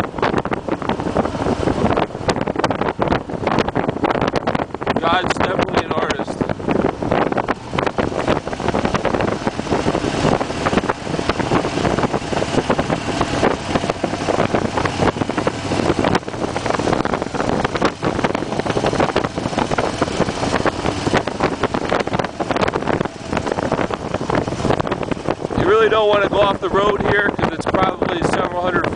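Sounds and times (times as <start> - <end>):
motorcycle engine cruising: 0.0 - 28.9
wind buffeting microphone: 0.0 - 28.9.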